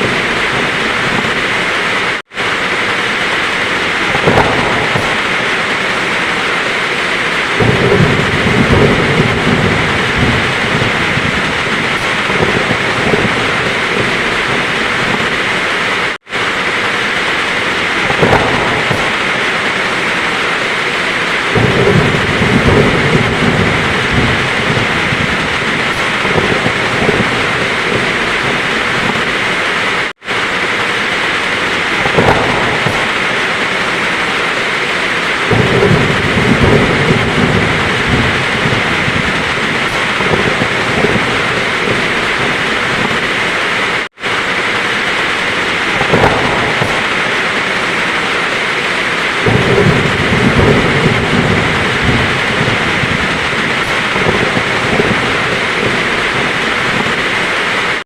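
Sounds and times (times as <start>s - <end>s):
heavy rain falling: 0.0s - 58.0s
thunder rumbling: 0.0s - 58.0s.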